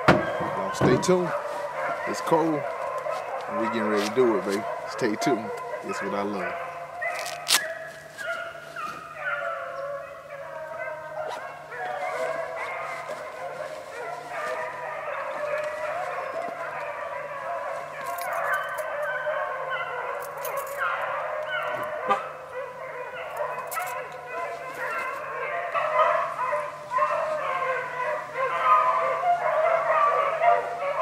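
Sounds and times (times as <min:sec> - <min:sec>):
pack of hounds baying: 0:00.0 - 0:31.0.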